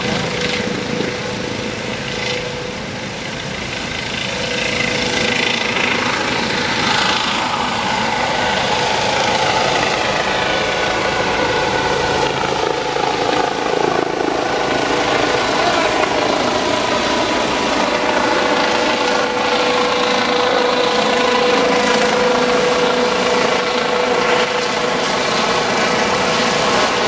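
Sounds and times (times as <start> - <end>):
gliding whining tones: 0.0 - 27.0
helicopter turbine and rotor: 0.0 - 27.0.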